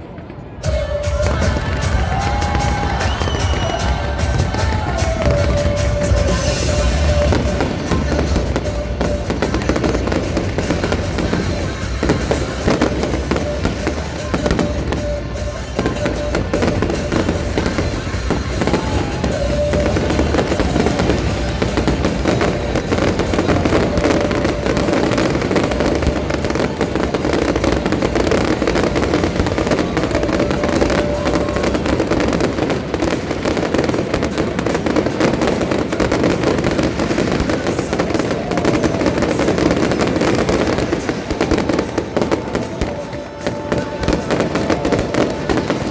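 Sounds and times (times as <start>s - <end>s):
fireworks bangs and crackles: 0.0s - 45.9s
music over sound system: 0.5s - 45.9s.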